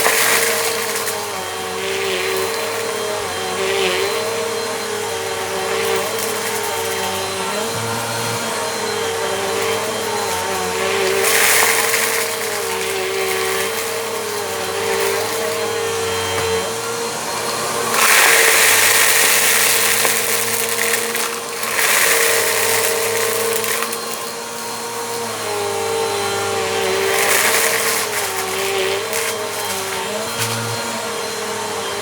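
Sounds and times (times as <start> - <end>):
vacuum cleaner motor hum: 0.0 - 32.0
vacuum picking up grit: 0.0 - 32.0.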